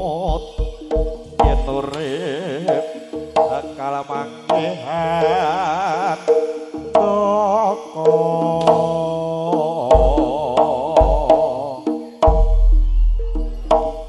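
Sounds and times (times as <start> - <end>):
gamelan melody with heavy vibrato: 0.0 - 14.0
sharp drum strokes: 0.0 - 14.0
steady held tones: 0.0 - 14.0.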